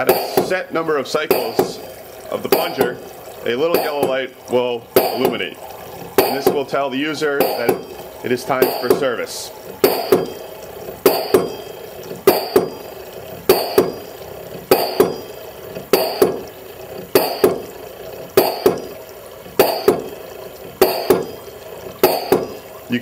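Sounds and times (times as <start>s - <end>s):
air-driven pump plunger clacking: 0.0s - 23.0s.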